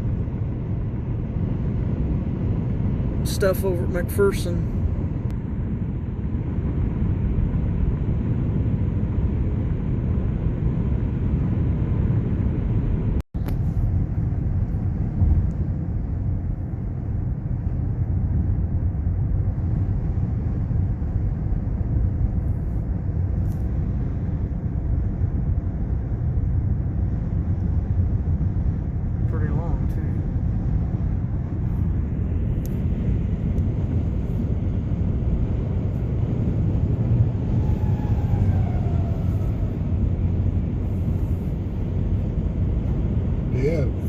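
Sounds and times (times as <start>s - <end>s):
low rumble of moving vehicle: 0.0s - 44.0s.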